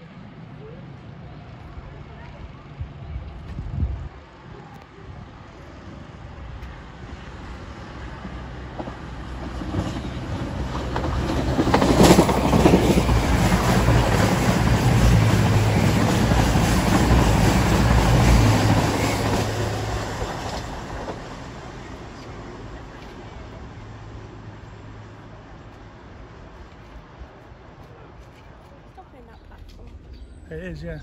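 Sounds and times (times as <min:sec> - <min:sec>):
diesel train passing: 0:00.0 - 0:31.0.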